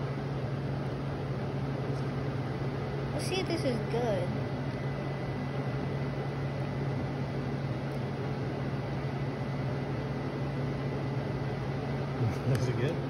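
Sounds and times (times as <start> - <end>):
faint high whine: 0.0 - 13.0
machine humming: 0.0 - 13.0.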